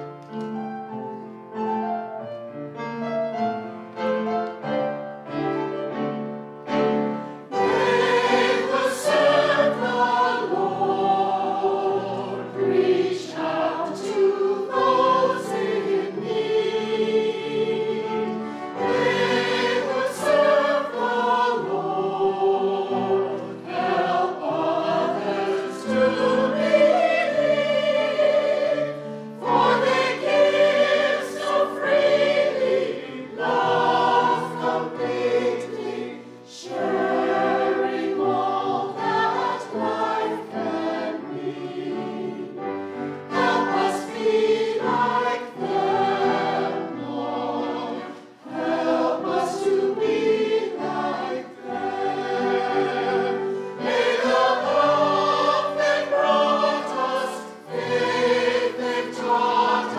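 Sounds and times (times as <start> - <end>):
church choir singing: 0.0 - 59.9
keyboard accompaniment: 0.0 - 59.9.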